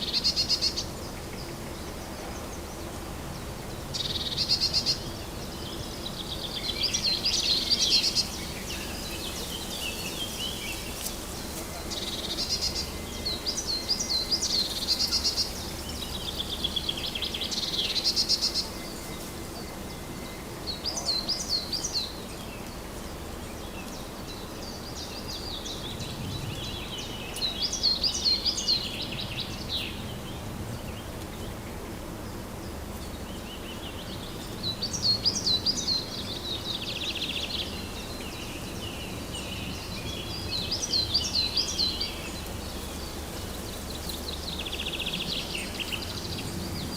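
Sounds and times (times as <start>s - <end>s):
songbirds trilling: 0.0s - 46.9s
steady background hush: 0.0s - 46.9s.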